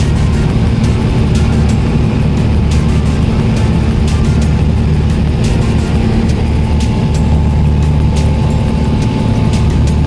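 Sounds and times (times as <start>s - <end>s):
propeller airplane engine drone: 0.0s - 10.0s.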